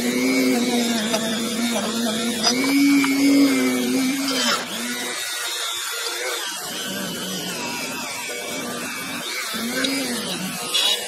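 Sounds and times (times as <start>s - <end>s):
rotary tool whining: 0.0s - 11.0s.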